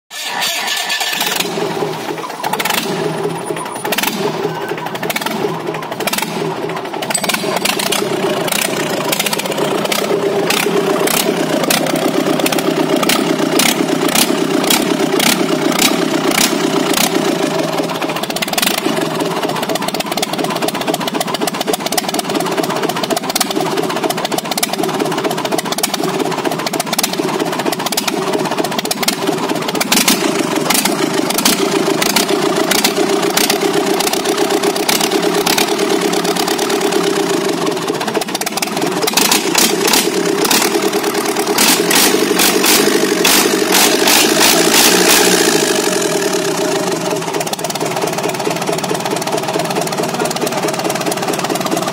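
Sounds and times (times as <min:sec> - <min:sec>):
diesel engine running: 0:00.2 - 0:51.9
sharp engine clicks: 0:00.2 - 0:51.9.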